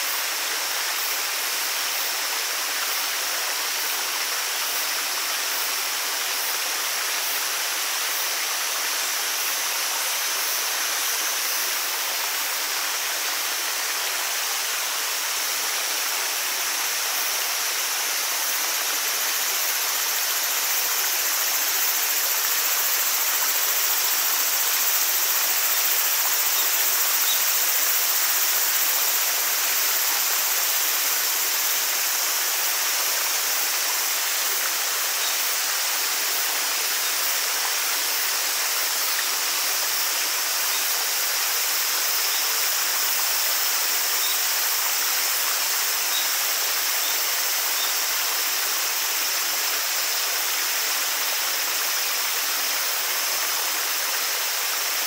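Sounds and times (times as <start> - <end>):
stream and waterfall rushing: 0.0 - 55.0.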